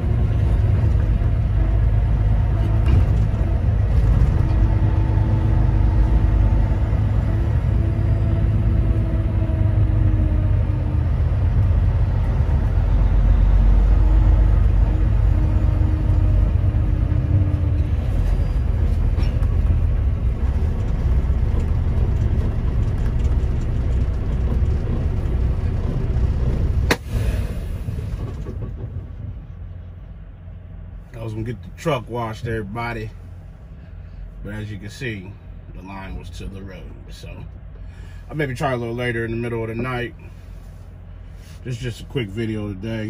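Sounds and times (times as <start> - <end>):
truck diesel engine rumble: 0.0 - 43.0.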